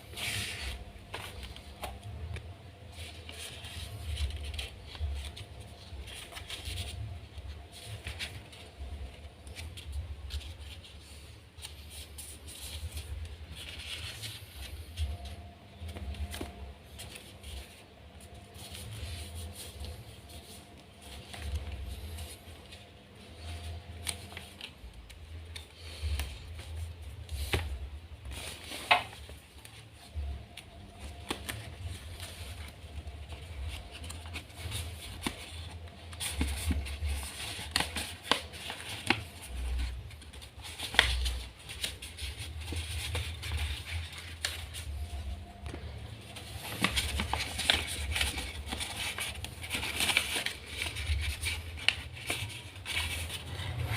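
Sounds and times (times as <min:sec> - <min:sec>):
paper rustling and crinkling: 0:00.0 - 0:53.9.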